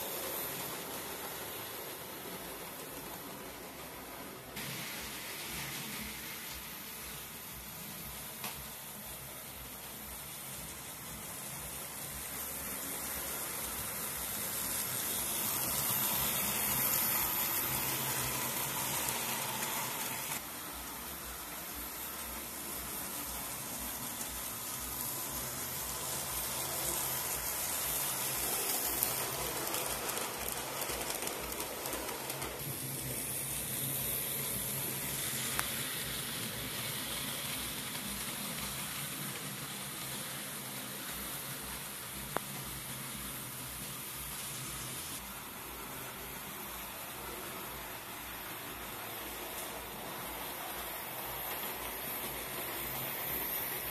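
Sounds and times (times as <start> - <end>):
model train running on track: 0.0 - 53.9.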